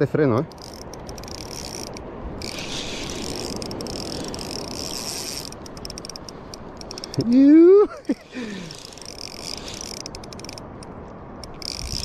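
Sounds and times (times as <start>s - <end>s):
fishing reel ratcheting: 0.4s - 12.0s.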